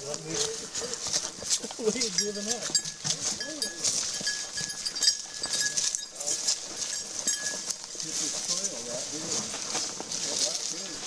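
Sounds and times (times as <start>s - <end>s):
footsteps crunching through brush: 0.0s - 11.0s.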